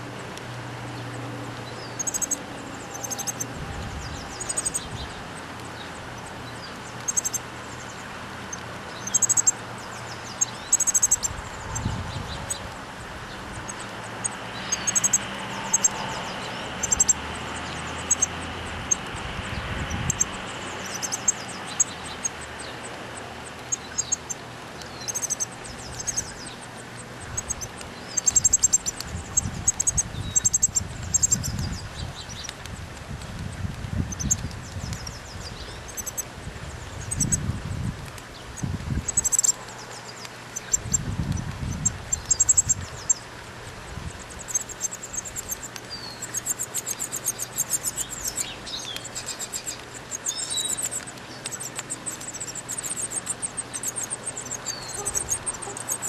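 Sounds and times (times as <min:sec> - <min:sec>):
songbird chirps: 0:00.0 - 0:56.0.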